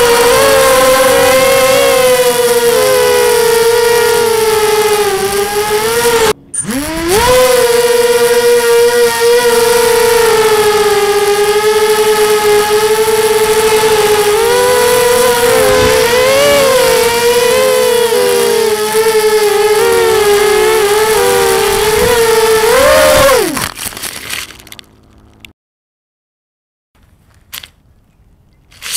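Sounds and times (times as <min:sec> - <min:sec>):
drone scraping on grass: 0:00.0 - 0:24.7
quadcopter motors whining: 0:00.0 - 0:25.2.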